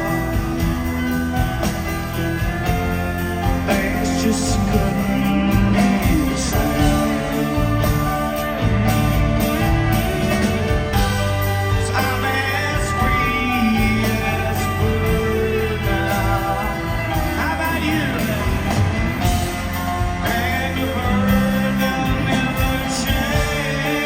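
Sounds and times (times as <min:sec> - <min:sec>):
bass guitar: 0:00.0 - 0:24.0
drums: 0:00.0 - 0:24.0
electric guitars: 0:00.0 - 0:24.0.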